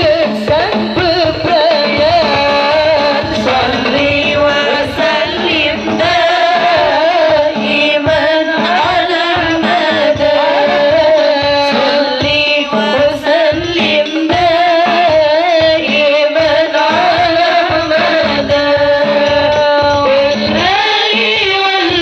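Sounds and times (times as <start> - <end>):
hand drum beat: 0.0 - 22.0
person singing devotional song: 0.0 - 22.0.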